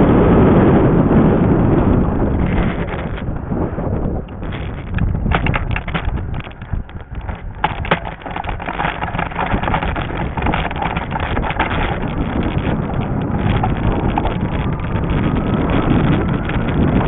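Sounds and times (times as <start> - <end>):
steady rumble: 0.0 - 17.0
wind buffeting microphone: 0.0 - 17.0
sharp rattles or knocks: 2.3 - 3.4, 4.2 - 17.0.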